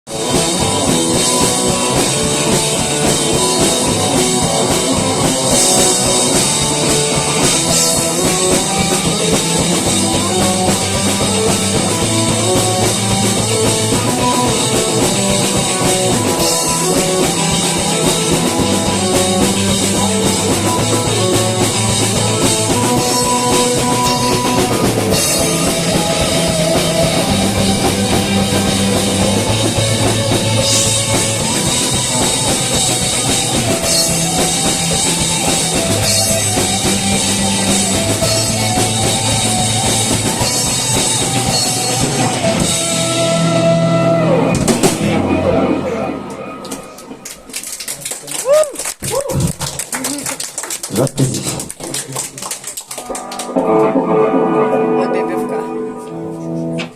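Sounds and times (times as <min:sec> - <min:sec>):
rock music: 0:00.0 - 0:48.6, 0:52.4 - 0:56.9.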